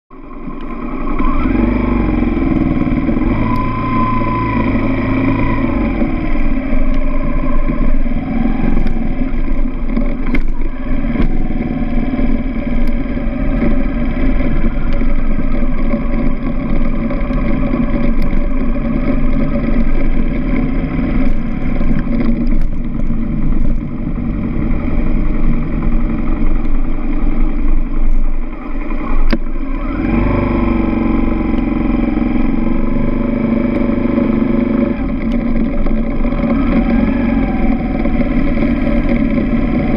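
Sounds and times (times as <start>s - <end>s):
dirt bike engine revving: 0.7s - 26.5s, 29.0s - 39.9s.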